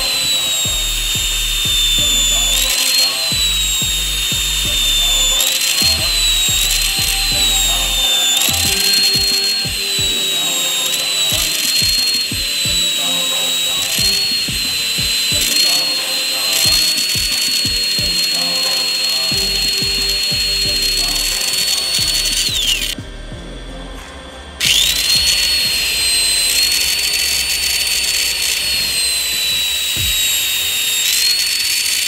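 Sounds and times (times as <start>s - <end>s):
electric drill whining: 0.0s - 23.0s, 24.6s - 32.0s
background music with beat: 0.0s - 31.4s.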